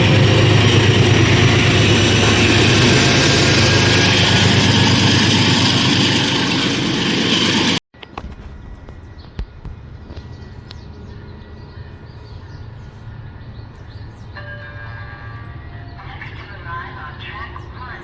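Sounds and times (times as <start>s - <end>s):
train passing close by: 0.0s - 7.8s, 8.6s - 18.0s.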